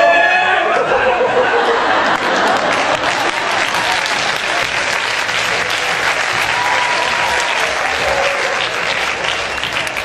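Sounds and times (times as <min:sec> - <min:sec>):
audience applauding: 0:01.9 - 0:10.0.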